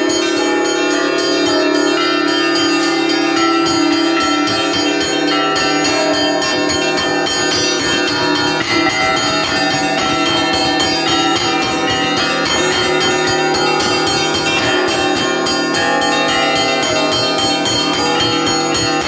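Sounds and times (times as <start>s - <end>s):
church bells ringing rapidly: 0.0s - 19.0s
large bell hum: 0.0s - 19.0s.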